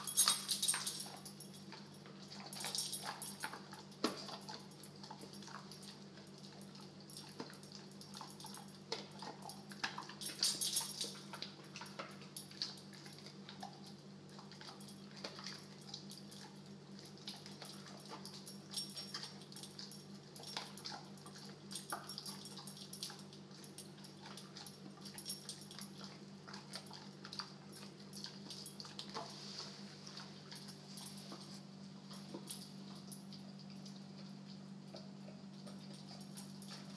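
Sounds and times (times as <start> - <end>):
dog chewing: 0.0 - 36.9.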